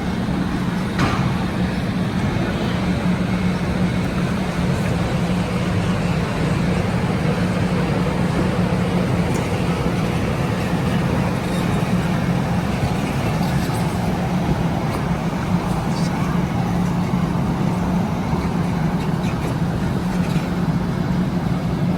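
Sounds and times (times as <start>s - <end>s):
vehicle running rumble: 0.0s - 21.9s.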